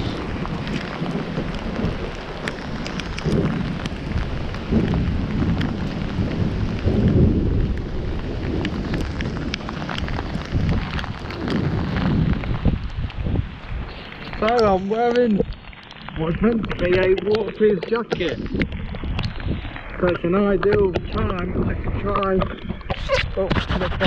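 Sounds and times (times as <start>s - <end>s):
heavy rain: 0.0s - 24.0s
low rumbles: 0.0s - 24.0s
raindrops ticking close by: 0.0s - 24.0s.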